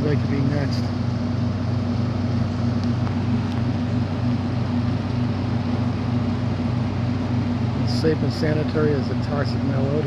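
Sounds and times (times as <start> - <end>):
machinery droning: 0.0 - 10.0.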